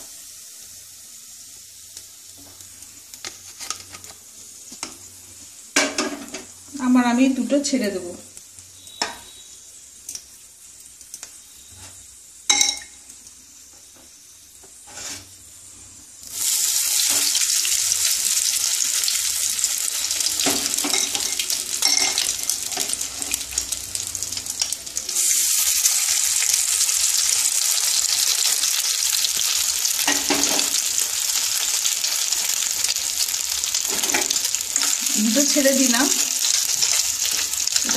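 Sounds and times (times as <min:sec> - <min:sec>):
food sizzling in hot oil: 0:00.0 - 0:37.9.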